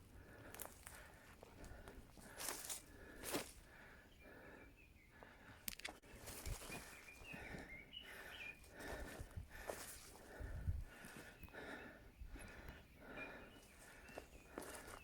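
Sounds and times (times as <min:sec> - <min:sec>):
footsteps on a trail: 0:00.0 - 0:04.0, 0:05.2 - 0:15.0
faint bird calls: 0:00.0 - 0:15.0.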